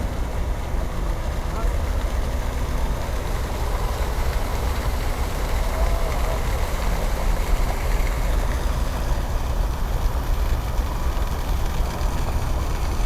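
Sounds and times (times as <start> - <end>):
low outdoor rumble with hiss: 0.0 - 13.0.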